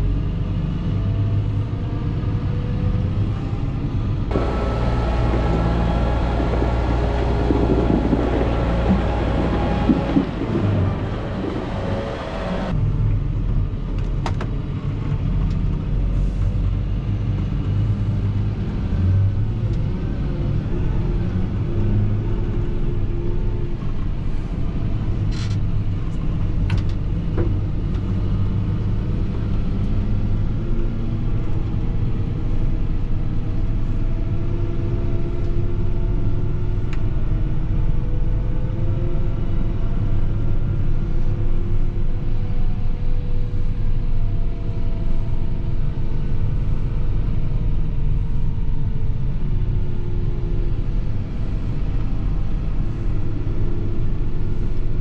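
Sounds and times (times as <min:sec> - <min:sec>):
tractor engine rumbling: 0:00.0 - 0:55.0.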